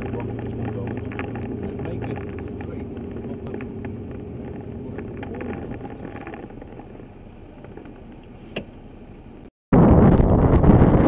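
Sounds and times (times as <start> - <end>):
wind noise on microphone: 0.0 - 8.6, 9.7 - 11.0
vehicle engine and tyre rumble: 0.0 - 11.0.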